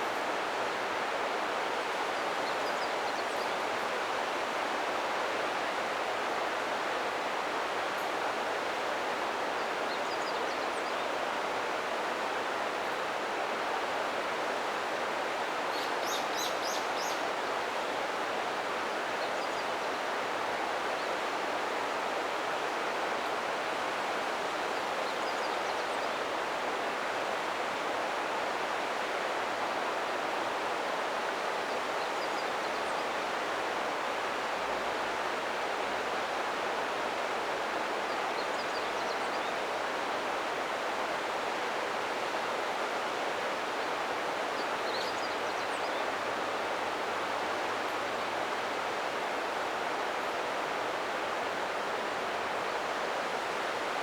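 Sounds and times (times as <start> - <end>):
river water flowing: 10.7 - 54.0.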